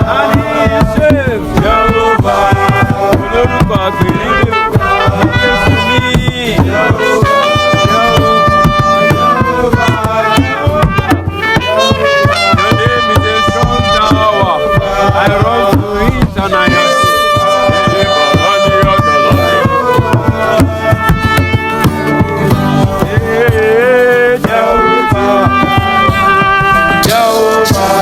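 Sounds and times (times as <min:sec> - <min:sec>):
band playing instrumental: 0:00.0 - 0:28.0.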